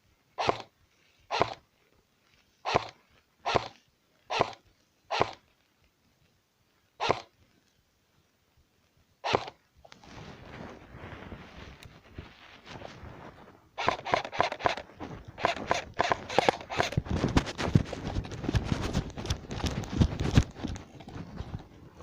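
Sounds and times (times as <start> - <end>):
rustling and scraping on microphone: 0.0 - 22.0.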